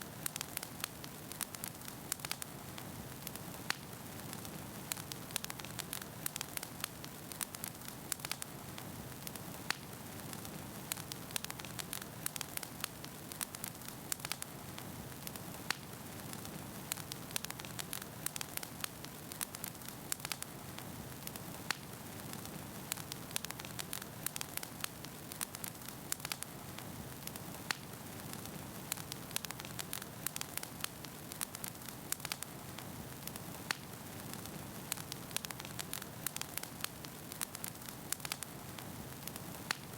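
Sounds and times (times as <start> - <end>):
logs crackling and popping: 0.0 - 39.9
fire hissing: 0.1 - 39.9.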